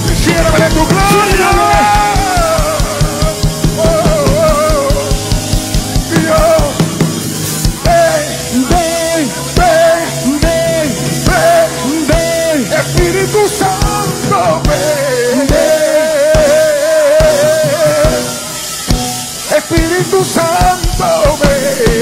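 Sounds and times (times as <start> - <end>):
drums beating: 0.0 - 22.0
live church band music: 0.0 - 22.0.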